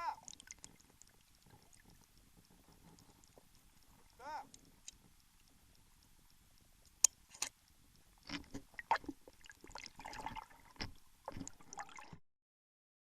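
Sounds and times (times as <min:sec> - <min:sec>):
water splashing and sloshing: 0:00.0 - 0:05.7, 0:07.0 - 0:12.2.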